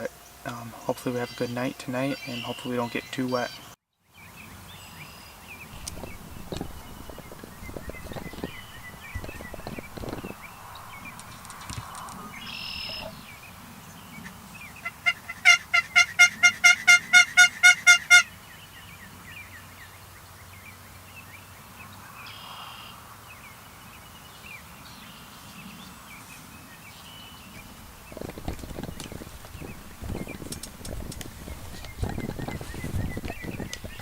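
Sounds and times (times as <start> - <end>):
clear bird calls: 0.0 - 19.9, 24.0 - 34.0
birdsong: 0.0 - 34.0.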